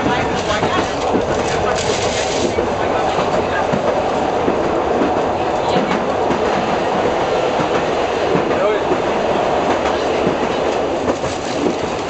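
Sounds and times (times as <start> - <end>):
railcar rumbling through tunnel: 0.0 - 12.0.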